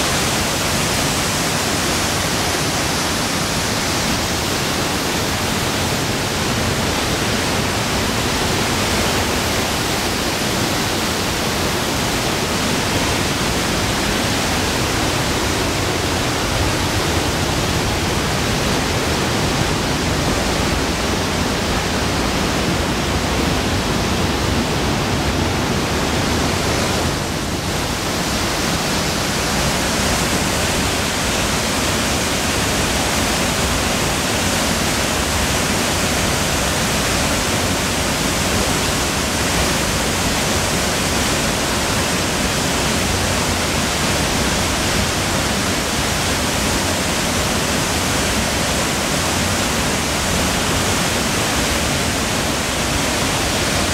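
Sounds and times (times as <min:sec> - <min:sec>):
waterfall roaring: 0:00.0 - 0:53.9.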